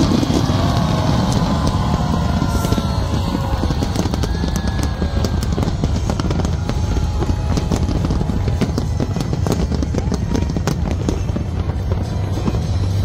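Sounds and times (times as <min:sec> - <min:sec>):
fireworks crackles and pops: 0:00.0 - 0:13.0.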